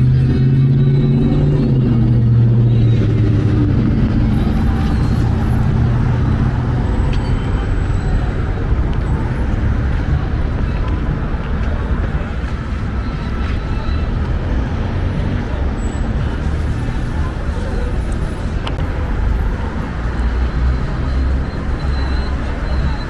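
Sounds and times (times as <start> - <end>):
passing traffic: 0.0 - 23.0
vehicle engine humming: 0.0 - 23.0.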